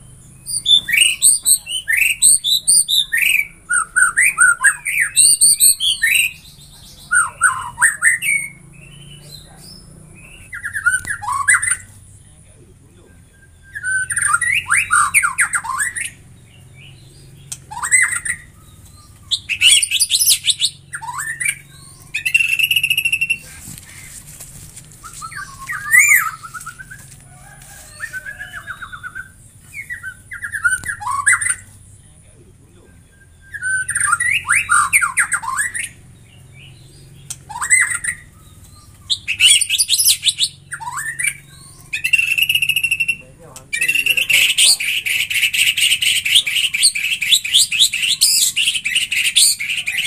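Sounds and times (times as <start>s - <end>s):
songbird whistling and trilling: 0.0s - 12.0s, 13.2s - 31.8s, 33.0s - 50.0s.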